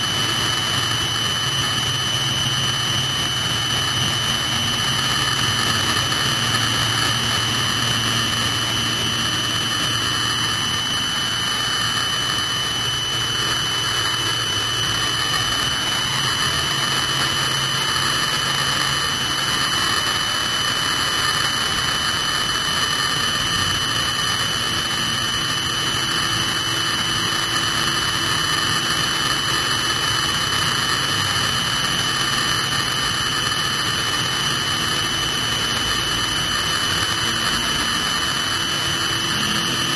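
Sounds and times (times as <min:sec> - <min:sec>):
helicopter turbine engine whine: 0:00.0 - 0:39.9.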